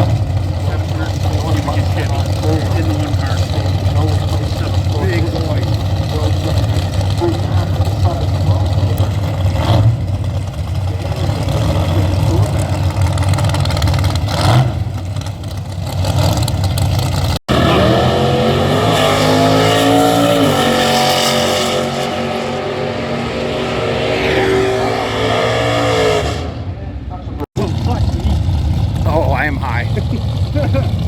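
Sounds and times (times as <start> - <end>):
car engine revving: 0.0 - 31.0
loud low engine rumble: 0.0 - 31.0.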